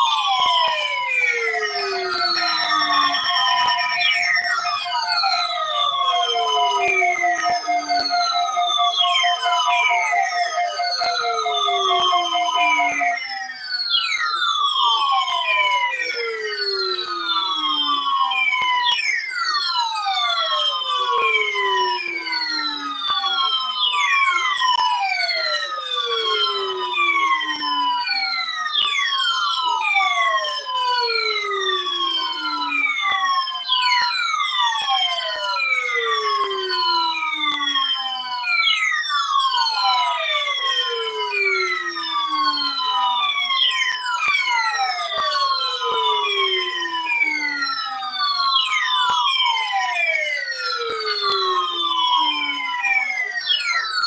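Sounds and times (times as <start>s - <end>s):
downward gliding siren tone: 0.0s - 54.0s.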